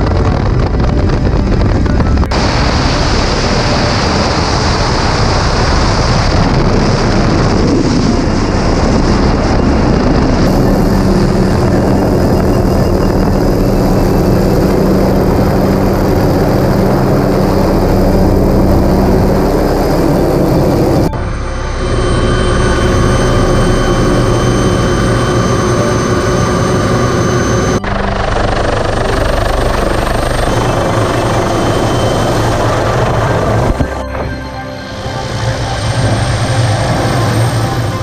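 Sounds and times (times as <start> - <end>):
helicopter idling with high whine: 0.0 - 38.0
helicopter turbine and rotor: 0.0 - 38.0.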